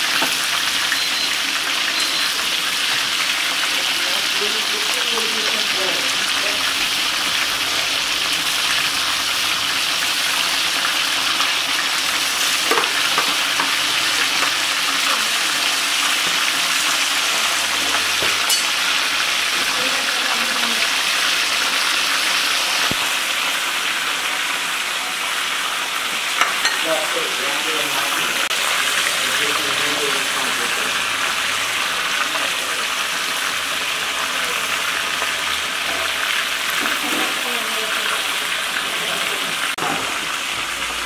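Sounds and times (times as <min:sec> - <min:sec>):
meat sizzling in hot oil: 0:00.0 - 0:41.0.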